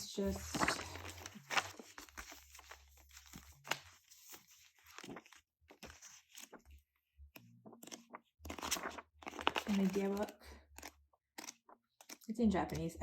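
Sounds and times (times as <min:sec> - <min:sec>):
paper and plastic packaging rustling: 0:00.0 - 0:06.8, 0:07.7 - 0:12.8.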